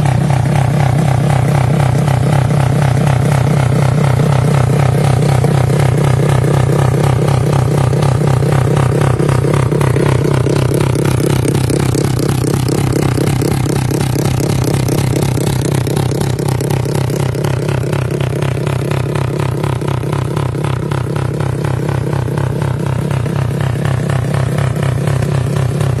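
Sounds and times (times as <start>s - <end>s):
motorcycle engine running loudly: 0.0s - 26.0s.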